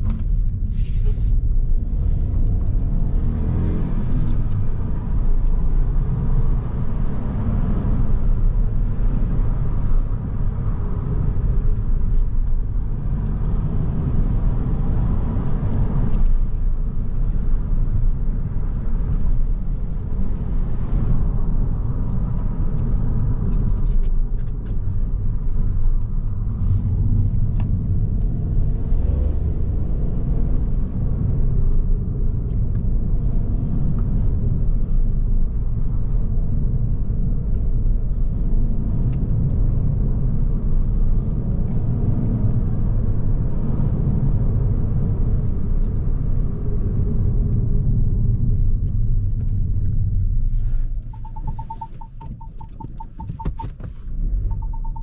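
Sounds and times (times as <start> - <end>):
tyre and road rumble: 0.0 - 55.0.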